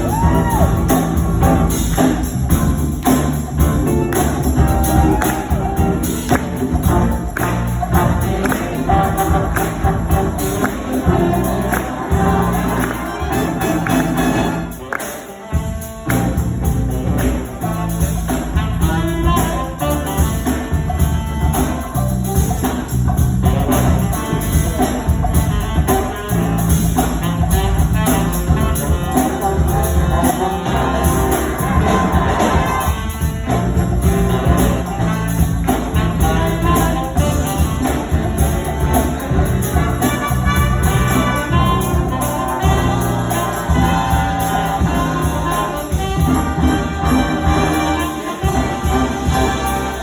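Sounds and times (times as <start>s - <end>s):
drum kit beat: 0.0s - 50.0s
jazz band playing: 0.0s - 50.0s.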